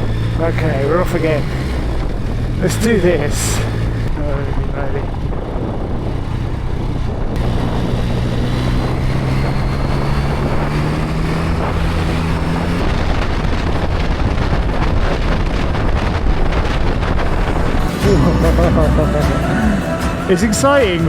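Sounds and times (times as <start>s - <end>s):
motorcycle engine pulling away: 0.0s - 18.2s
wind noise on microphone: 0.0s - 18.2s.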